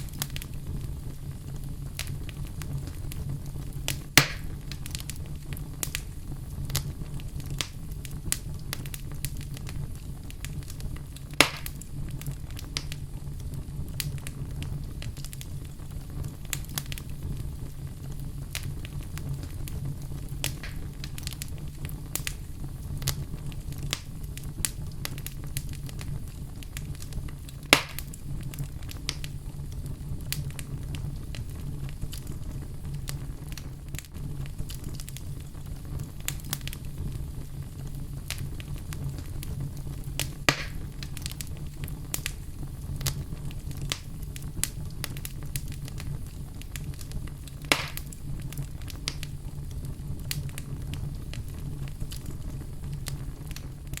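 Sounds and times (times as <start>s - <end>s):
fire crackling: 0.0s - 54.0s
loud fire pops: 0.0s - 54.0s.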